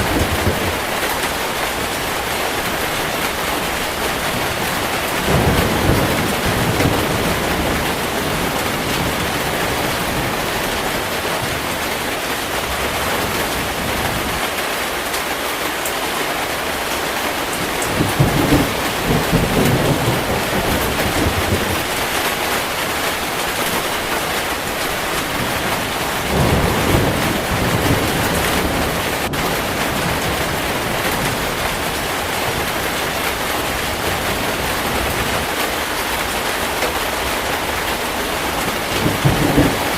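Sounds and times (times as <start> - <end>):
thunder rumbling: 0.0 - 14.4, 16.8 - 39.9
heavy rain: 0.0 - 39.9.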